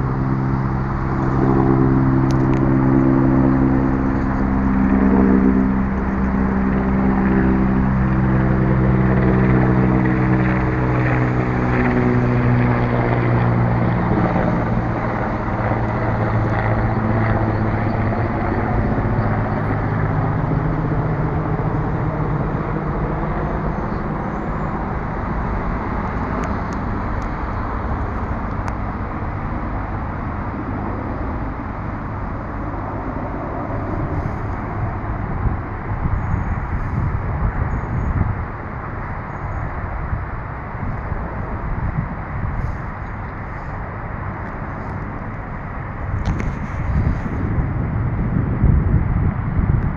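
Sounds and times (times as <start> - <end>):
helicopter passing: 0.0 - 49.9.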